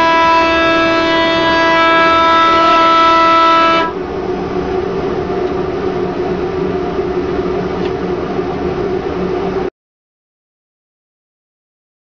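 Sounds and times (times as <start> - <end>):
diesel engine droning: 0.0 - 9.7.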